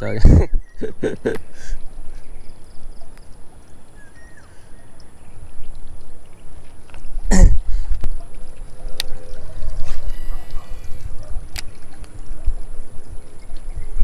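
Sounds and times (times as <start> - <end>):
wind rumbling on camera: 0.0 - 14.0.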